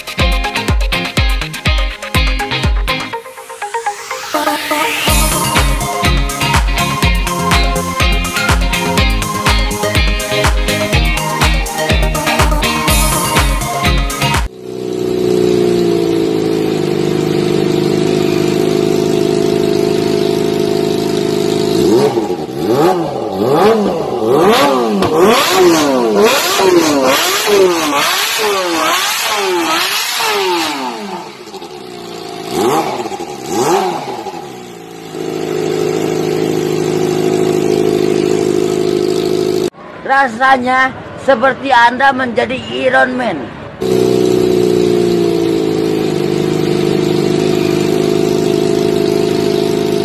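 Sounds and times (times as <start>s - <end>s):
motorcycle engine revving: 0.0s - 39.8s, 43.7s - 50.0s.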